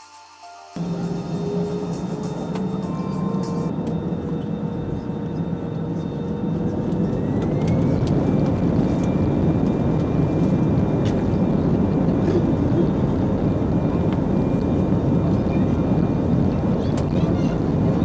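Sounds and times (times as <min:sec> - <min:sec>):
faint rising whine: 0:00.8 - 0:16.8
jet engines rumbling: 0:00.8 - 0:18.0.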